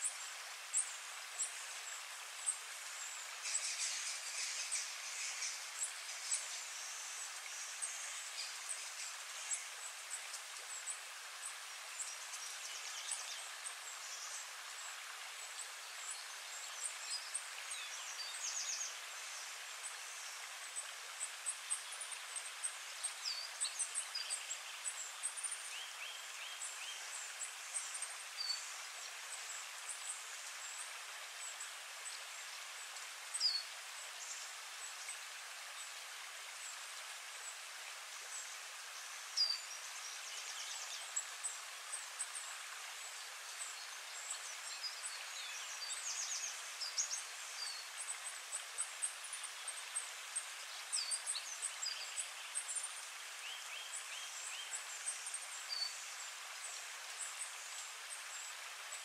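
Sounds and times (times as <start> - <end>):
small birds chirping: 0.0 - 35.9, 36.5 - 59.0
stream hissing: 0.0 - 59.0.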